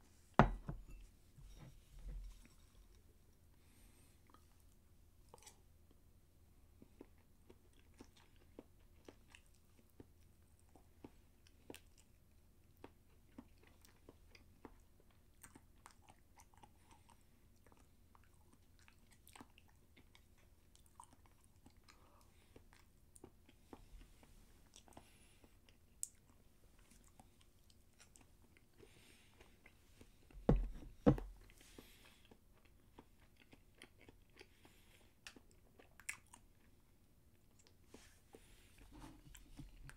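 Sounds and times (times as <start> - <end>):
person chewing food: 3.7 - 6.0, 6.7 - 39.9.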